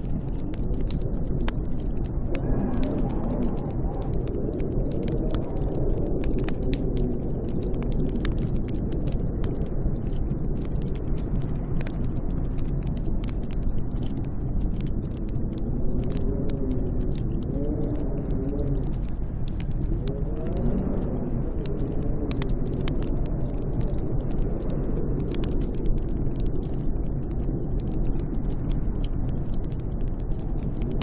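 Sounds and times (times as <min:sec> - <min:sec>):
faint ticks: 0:00.0 - 0:31.0
snowstorm wind howling: 0:00.0 - 0:31.0.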